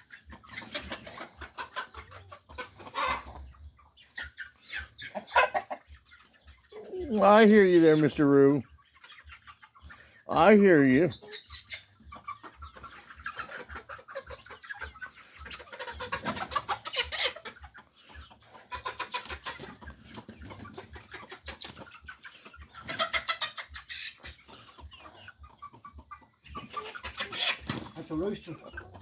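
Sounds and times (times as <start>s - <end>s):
chickens clucking and squawking: 0.0s - 29.0s.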